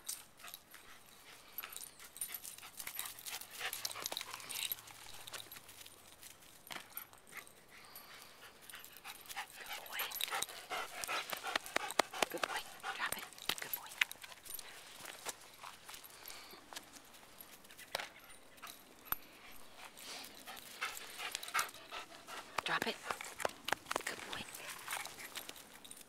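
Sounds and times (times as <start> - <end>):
dog panting: 0.3 - 5.6, 6.8 - 16.7, 17.5 - 25.8.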